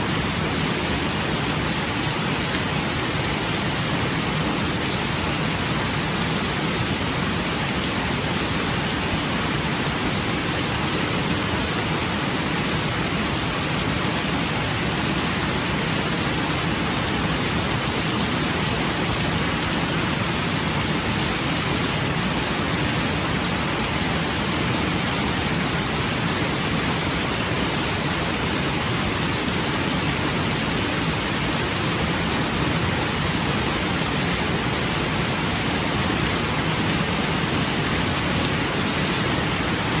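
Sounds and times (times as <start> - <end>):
rain falling steadily: 0.0 - 40.0.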